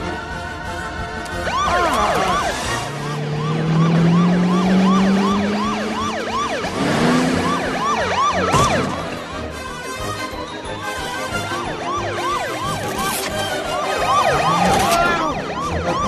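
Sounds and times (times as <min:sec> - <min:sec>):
low drone rising in pitch: 0:00.0 - 0:16.0
police siren yelping: 0:01.2 - 0:16.0.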